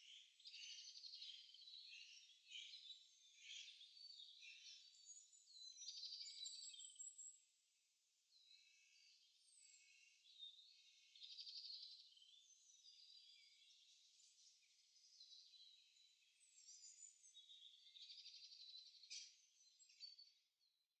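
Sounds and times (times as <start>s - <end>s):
songbirds singing: 0.0s - 20.8s.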